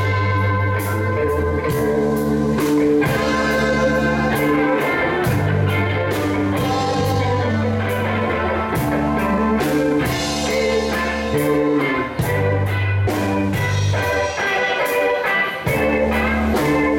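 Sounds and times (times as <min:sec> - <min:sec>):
drum kit with cymbal strikes: 0:00.0 - 0:16.9
electric bass: 0:00.0 - 0:16.9
electric guitars: 0:00.0 - 0:16.9.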